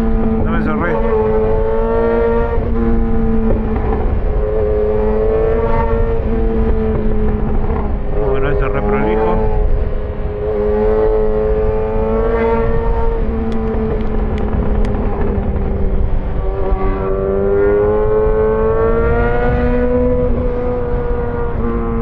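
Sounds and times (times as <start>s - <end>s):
motorcycle engine while riding: 0.0s - 22.0s
road and wind rumble: 0.0s - 22.0s.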